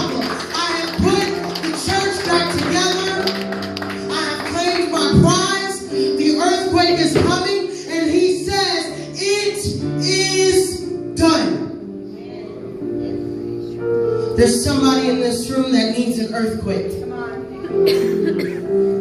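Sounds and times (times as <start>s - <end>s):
held keyboard chords: 0.0s - 19.0s.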